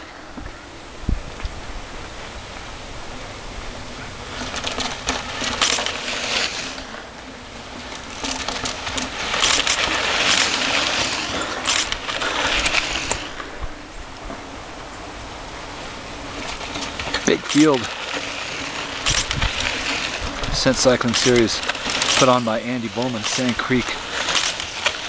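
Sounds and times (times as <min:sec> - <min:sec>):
bike rattles and clicks: 0:00.0 - 0:25.0
bike tyres crunching on dirt: 0:00.0 - 0:25.0.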